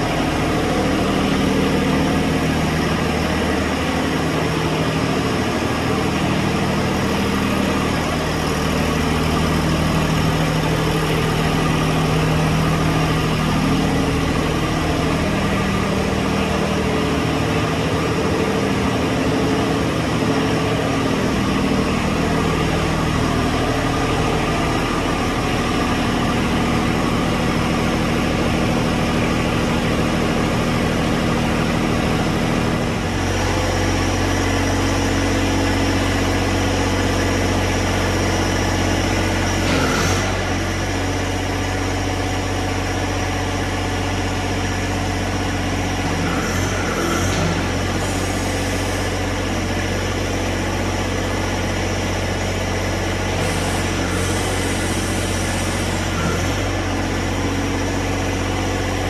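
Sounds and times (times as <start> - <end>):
diesel tractor engine idling: 0.0 - 59.0.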